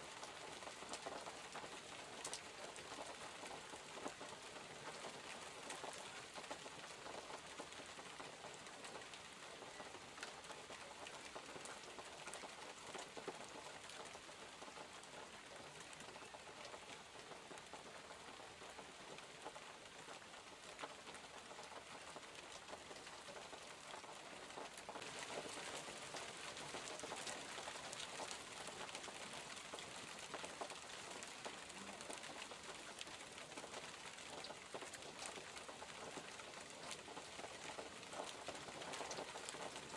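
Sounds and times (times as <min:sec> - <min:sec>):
raindrops ticking: 0:00.0 - 0:39.9
steady rain hissing: 0:00.0 - 0:39.9.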